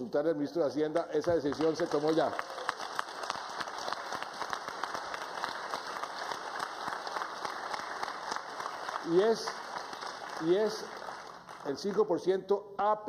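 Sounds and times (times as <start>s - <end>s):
audience applauding: 1.2s - 12.2s.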